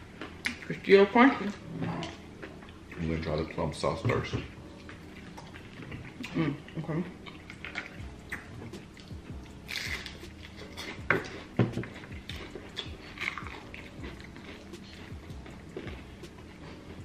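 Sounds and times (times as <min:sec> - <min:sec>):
chewing crispy food: 0:01.5 - 0:17.0.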